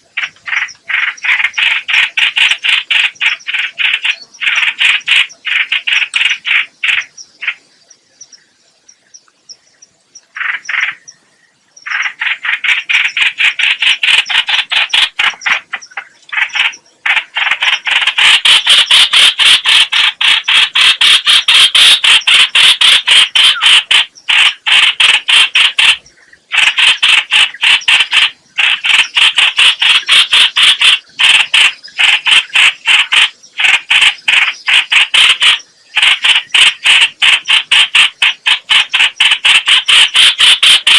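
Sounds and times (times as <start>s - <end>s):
bird calling harsh repeated notes: 0.0s - 8.3s, 10.2s - 11.2s, 11.8s - 40.9s.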